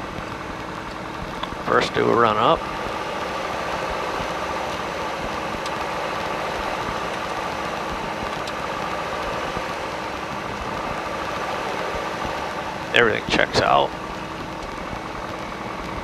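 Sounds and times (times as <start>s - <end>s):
aircraft engine running: 0.0s - 16.0s.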